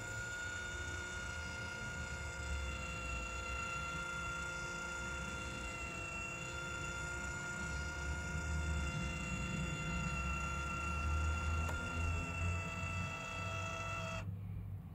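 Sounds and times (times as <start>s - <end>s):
electric motor whining: 0.0s - 14.3s.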